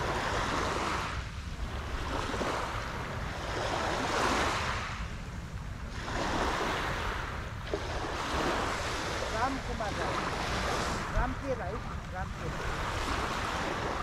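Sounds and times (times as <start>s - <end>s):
water washing against shore: 0.0s - 14.0s
wind rumble on microphone: 0.0s - 14.0s.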